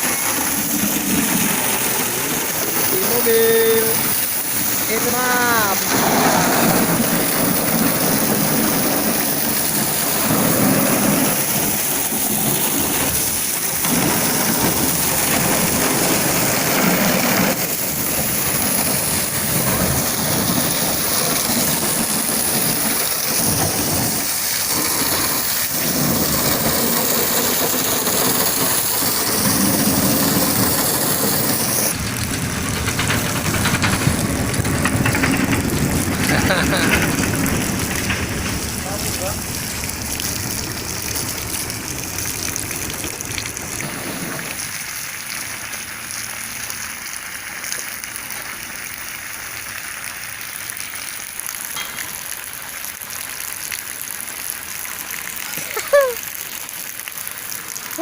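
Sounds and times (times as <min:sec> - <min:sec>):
high-pressure water jet hissing: 0:00.0 - 0:50.6, 0:55.2 - 0:56.3.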